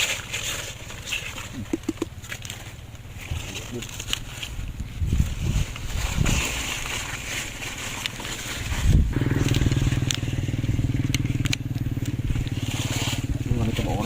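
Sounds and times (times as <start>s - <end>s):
small engine chugging: 0.0s - 4.8s, 6.7s - 14.0s
rustling: 0.0s - 14.0s.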